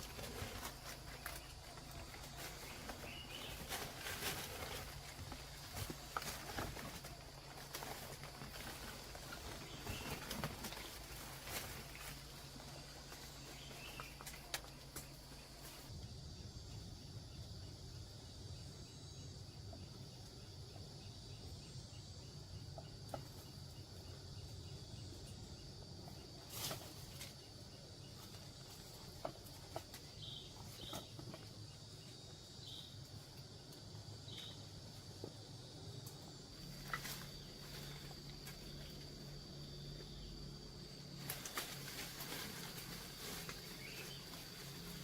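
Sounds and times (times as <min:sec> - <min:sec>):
rustles: 0:00.0 - 0:16.1, 0:23.0 - 0:45.0
insects droning: 0:00.0 - 0:45.0.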